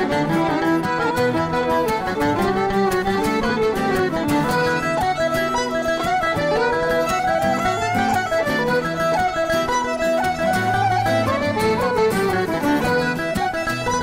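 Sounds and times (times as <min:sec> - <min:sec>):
instrumental music with steady beat: 0:00.0 - 0:14.0.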